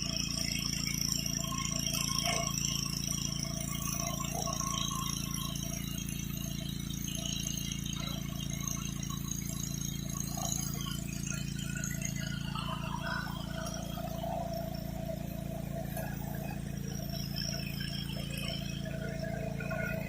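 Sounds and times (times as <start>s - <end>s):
pressure washer engine running: 0.0s - 20.0s.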